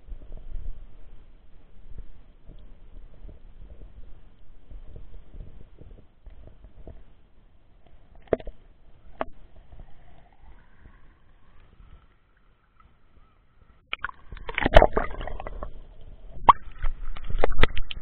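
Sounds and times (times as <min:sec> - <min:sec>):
muffled water churning: 0:00.0 - 0:18.0.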